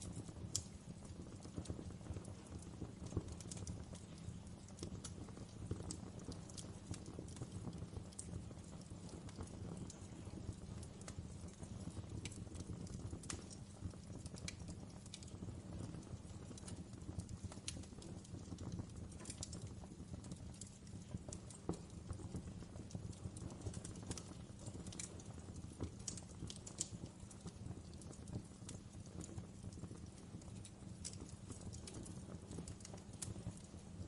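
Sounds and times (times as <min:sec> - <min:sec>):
fireplace fire crackling: 0:00.0 - 0:34.0.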